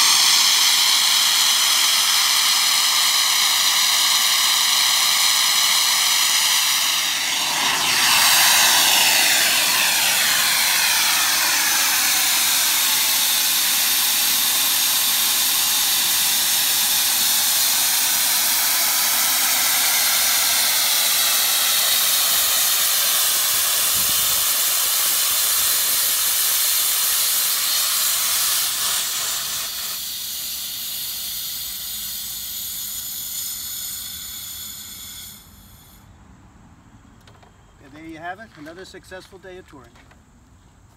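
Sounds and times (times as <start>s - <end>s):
steam hissing from valve: 0.0s - 36.1s.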